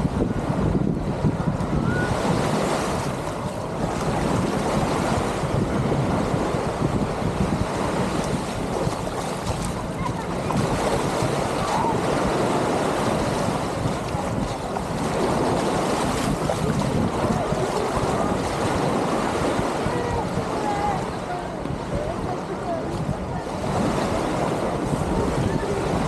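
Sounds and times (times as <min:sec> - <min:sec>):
small waves washing ashore: 0:00.0 - 0:26.0
wind buffeting microphone: 0:00.0 - 0:26.0
distant crowd chatter: 0:01.1 - 0:26.0.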